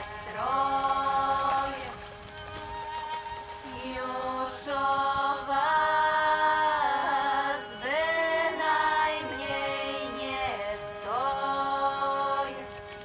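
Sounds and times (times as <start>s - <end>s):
slow song with held sung notes: 0.0s - 13.0s.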